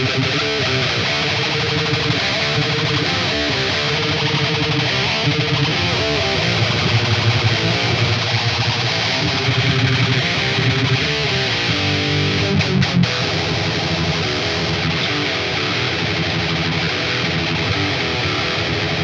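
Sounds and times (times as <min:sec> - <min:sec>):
distorted electric guitar riff: 0:00.0 - 0:19.0.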